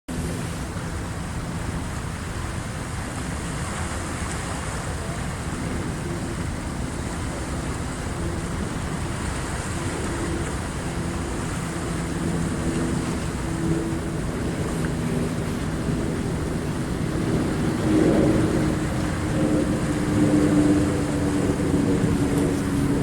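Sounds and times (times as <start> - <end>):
waves washing in: 0.1 - 23.0.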